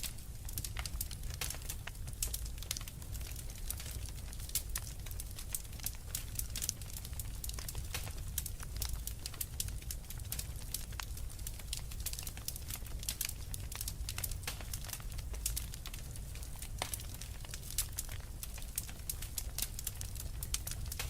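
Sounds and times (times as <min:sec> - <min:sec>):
fire crackling and popping: 0:00.0 - 0:21.0
low fire rumble: 0:00.0 - 0:21.0.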